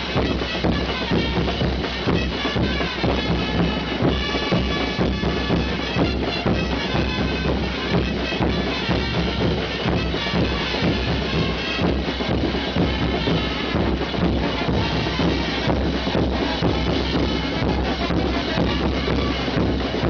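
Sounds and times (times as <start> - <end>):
drums beating a driving rhythm: 0.0 - 20.0
live dance band music: 0.0 - 20.0.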